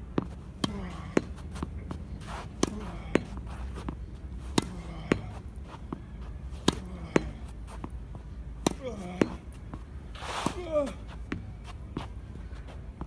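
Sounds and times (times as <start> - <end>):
racket striking tennis ball: 0.1 - 5.9, 6.5 - 8.0, 8.6 - 12.2.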